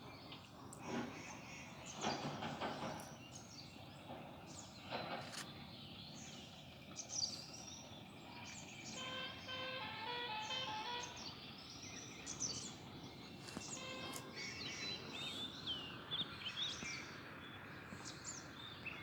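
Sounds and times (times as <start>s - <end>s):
small birds chirping: 0.1s - 19.0s
outdoor background hiss: 3.2s - 19.0s.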